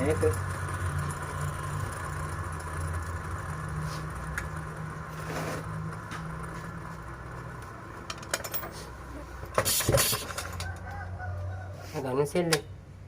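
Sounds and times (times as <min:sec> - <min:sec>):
engine idling: 0:00.0 - 0:10.5.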